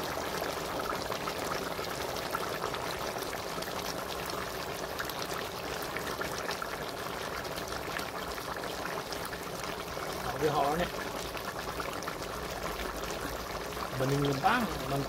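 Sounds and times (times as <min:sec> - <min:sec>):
curry bubbling and sizzling: 0:00.0 - 0:15.0.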